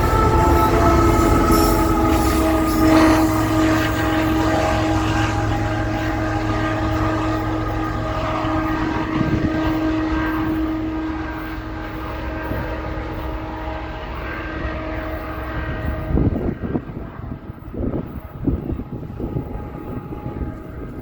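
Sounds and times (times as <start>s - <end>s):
diesel locomotive engine droning: 0.0s - 21.0s
train rumbling past: 0.0s - 21.0s.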